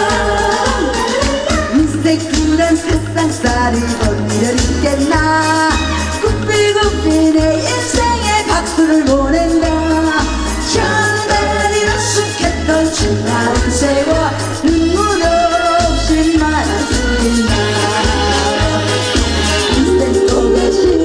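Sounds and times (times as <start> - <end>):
live band playing: 0.0 - 21.0
pulsing bass beat: 0.0 - 21.0
woman singing through microphone: 0.0 - 21.0.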